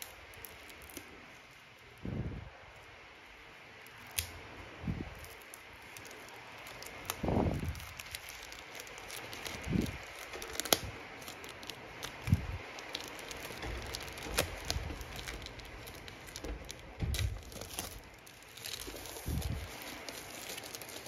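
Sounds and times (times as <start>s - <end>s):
plastic shrink wrap crinkling: 0.0s - 2.0s, 3.8s - 21.0s.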